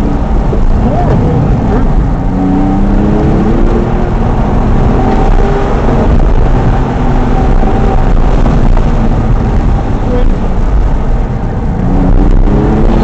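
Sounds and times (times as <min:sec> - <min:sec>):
car engine pulling hard: 0:00.0 - 0:13.0
wind and road noise: 0:00.0 - 0:13.0.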